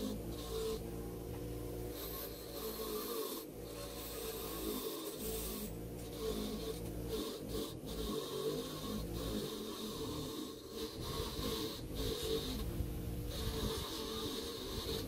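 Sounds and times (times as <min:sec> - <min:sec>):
wire wheel grinder scraping metal: 0:00.0 - 0:00.9, 0:01.8 - 0:15.0.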